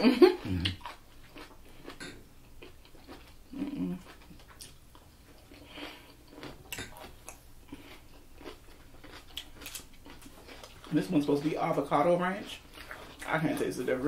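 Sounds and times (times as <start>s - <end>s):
chewing and lip smacks: 0.6s - 11.1s, 12.4s - 13.7s.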